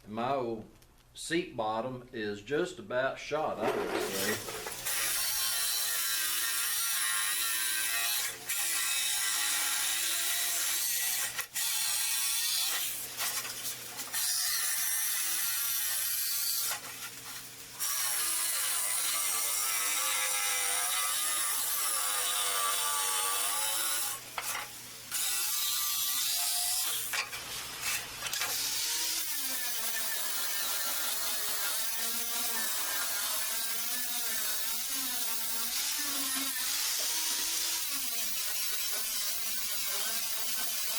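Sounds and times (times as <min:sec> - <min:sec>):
tool mechanism whirring and ratcheting: 0:03.6 - 0:40.9.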